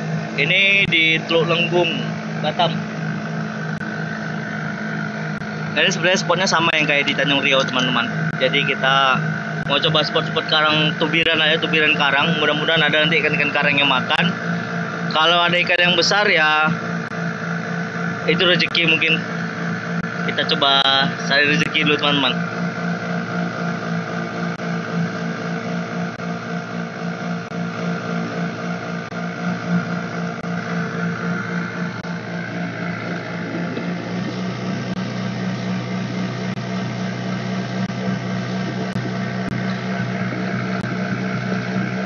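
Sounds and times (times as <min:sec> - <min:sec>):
boat motor running: 0:00.0 - 0:42.0
water noise: 0:00.0 - 0:42.0
wind: 0:00.0 - 0:42.0.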